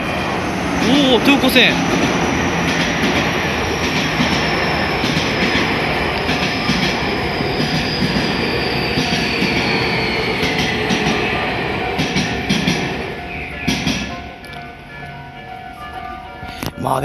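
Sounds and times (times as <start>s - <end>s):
high wheel squeal: 0.0s - 14.1s
train wheels rumbling on rails: 0.0s - 17.0s.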